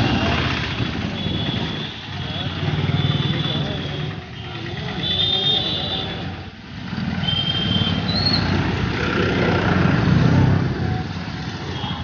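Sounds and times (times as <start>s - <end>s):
motorcycle engines passing: 0.0s - 12.0s
street traffic: 0.0s - 12.0s.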